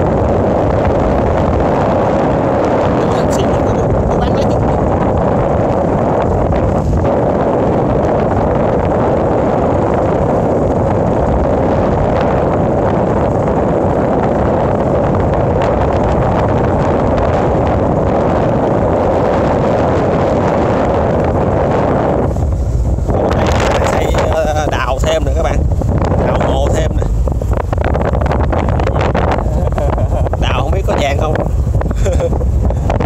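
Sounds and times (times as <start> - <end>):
wind rumble on microphone: 0.0 - 33.0.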